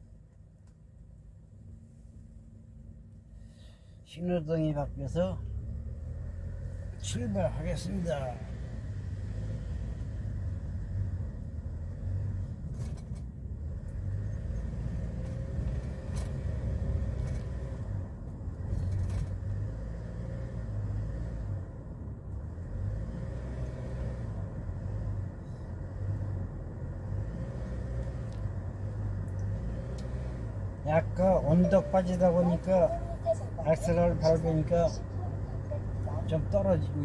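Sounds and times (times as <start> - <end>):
road noise: 0.0 - 37.0
truck diesel engine: 1.6 - 37.0.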